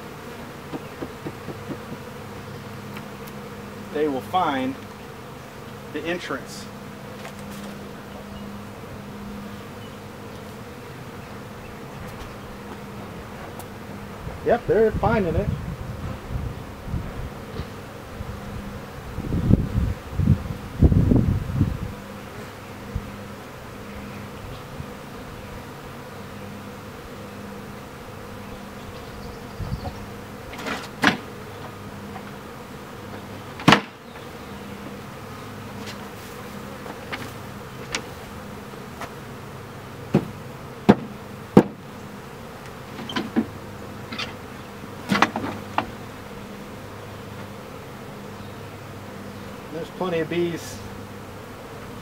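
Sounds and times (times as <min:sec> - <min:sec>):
bees buzzing: 0:00.0 - 0:52.0.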